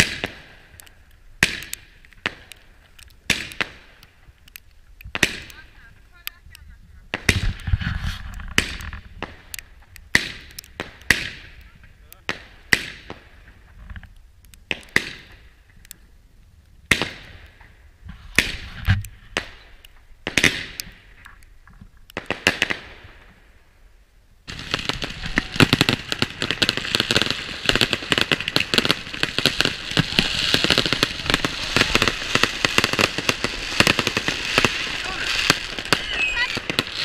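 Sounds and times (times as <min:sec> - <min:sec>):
fireworks banging and crackling: 0:00.0 - 0:16.0, 0:16.8 - 0:23.6, 0:24.5 - 0:37.0.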